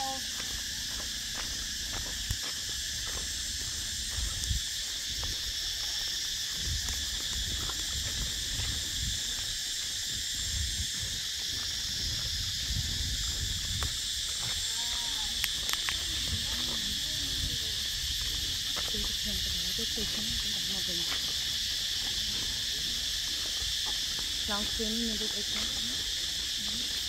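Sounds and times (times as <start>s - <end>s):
cicadas buzzing: 0.0s - 27.0s.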